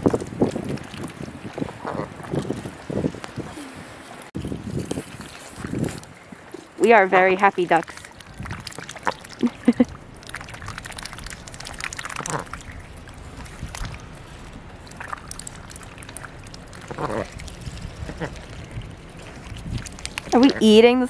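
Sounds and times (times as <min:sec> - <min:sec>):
ice crackling and water sloshing: 0:00.0 - 0:21.0.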